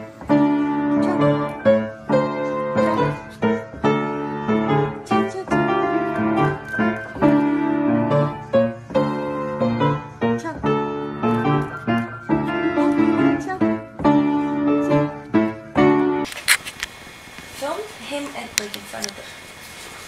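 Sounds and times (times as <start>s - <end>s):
piano chords: 0.0s - 16.3s.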